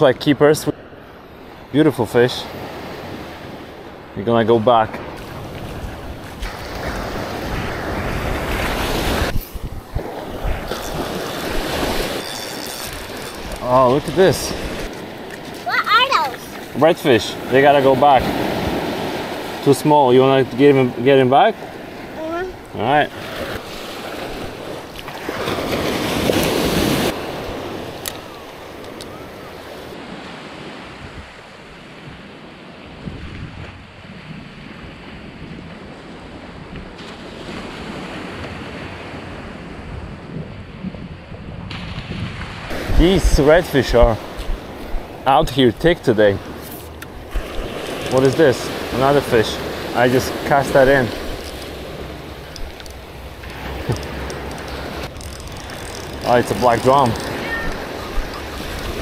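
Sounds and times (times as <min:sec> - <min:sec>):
surf washing onto beach: 0:00.8 - 0:59.0
wind rumbling on microphone: 0:05.0 - 0:15.7, 0:21.7 - 0:59.0.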